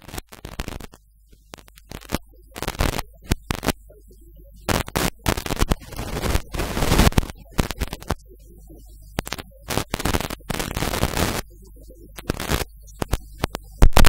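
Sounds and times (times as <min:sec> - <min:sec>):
crackling static: 0:00.0 - 0:14.0.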